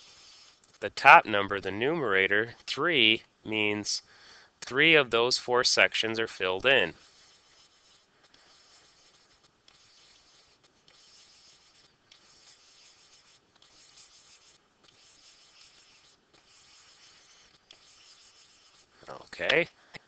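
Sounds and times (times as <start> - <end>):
stylus scratching on surface: 0.0 - 2.7, 5.9 - 19.6.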